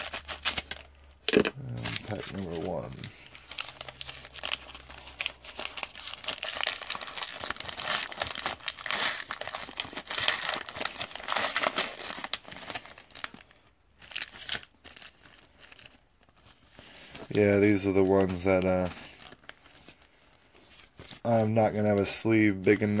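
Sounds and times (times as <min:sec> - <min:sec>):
foil wrapper tearing and crinkling: 0:00.0 - 0:20.0.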